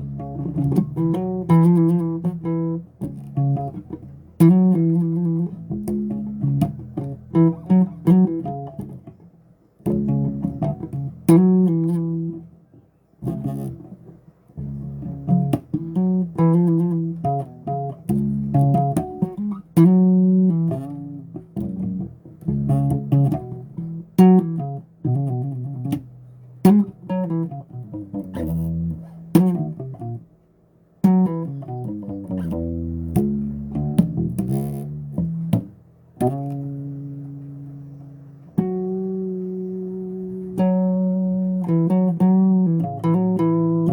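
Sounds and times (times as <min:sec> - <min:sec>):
bass guitar playing: 0:00.0 - 0:43.9.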